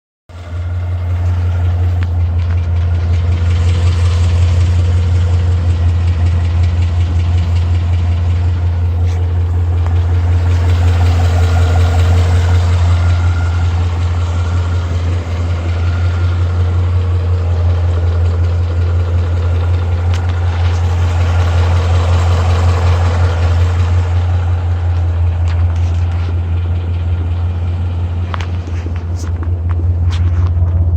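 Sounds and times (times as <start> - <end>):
car engine idling: 0.3 - 30.9
engine ticking: 0.3 - 30.9.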